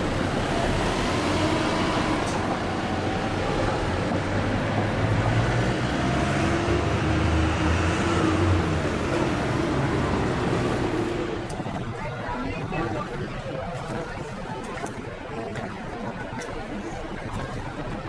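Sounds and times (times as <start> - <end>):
street traffic rumble: 0.0 - 18.0
vehicle engine humming: 0.0 - 18.0.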